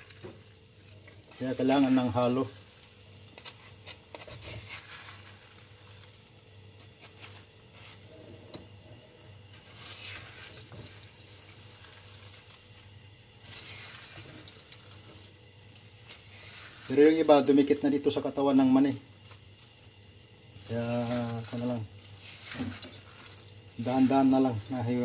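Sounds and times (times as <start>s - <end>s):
wooden spatula scraping a pan: 0.0s - 18.1s, 20.6s - 25.0s
faint sizzle: 0.0s - 25.0s
peanuts rattling in a frying pan: 0.0s - 25.0s.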